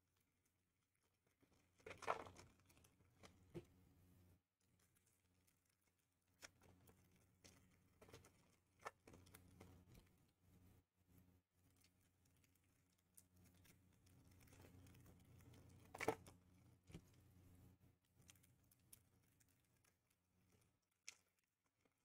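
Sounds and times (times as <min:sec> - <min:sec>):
faint low hum: 0:00.1 - 0:22.0.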